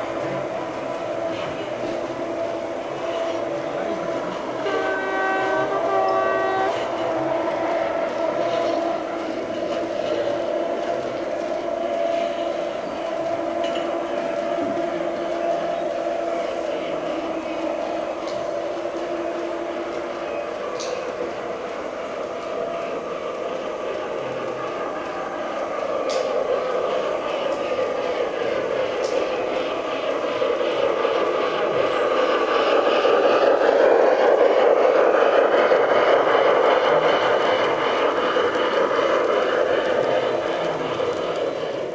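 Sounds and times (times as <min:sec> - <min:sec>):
model train rolling rumble: 0:00.0 - 0:41.9.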